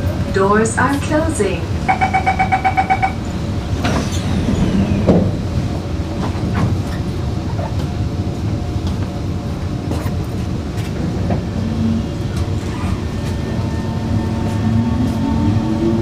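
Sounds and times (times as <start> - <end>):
train rumbling: 0.0 - 16.0
train motor whine: 0.4 - 9.0, 9.9 - 16.0.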